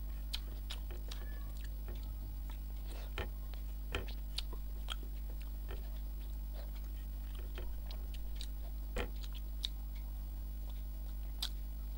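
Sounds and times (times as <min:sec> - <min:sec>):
person chewing food: 0:00.0 - 0:11.6
steady low hum: 0:00.0 - 0:11.9.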